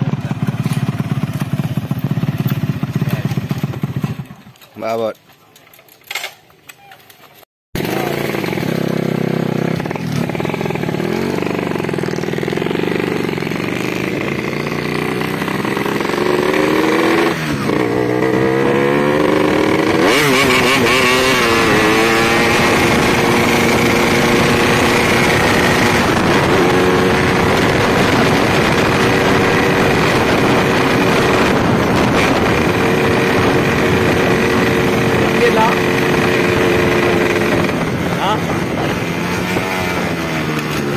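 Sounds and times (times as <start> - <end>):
two-stroke motorcycle engine revving: 0.0 - 5.2, 7.8 - 40.9.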